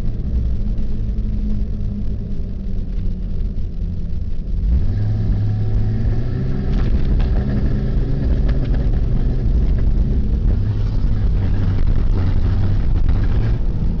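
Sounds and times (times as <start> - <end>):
engine running with misfire: 0.0 - 14.0.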